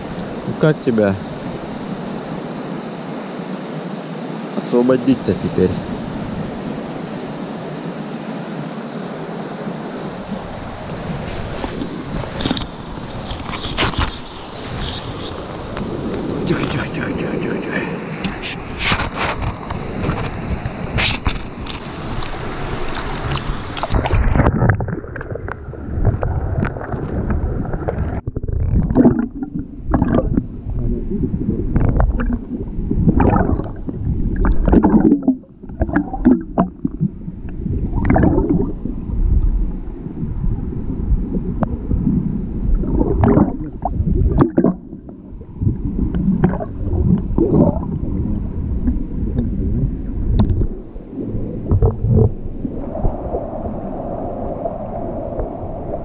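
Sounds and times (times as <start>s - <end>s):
river water sloshing and gurgling: 5.5s - 56.0s
wind buffeting microphone: 10.0s - 56.0s.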